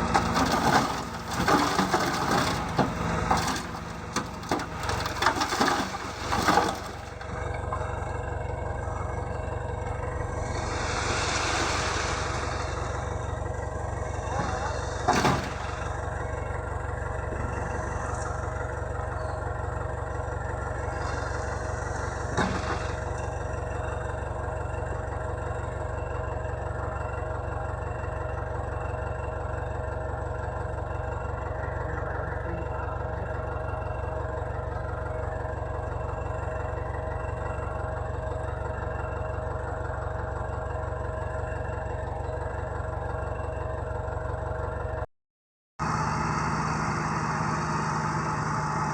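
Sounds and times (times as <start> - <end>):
diesel engine running: 0.0 - 45.1, 45.8 - 48.9.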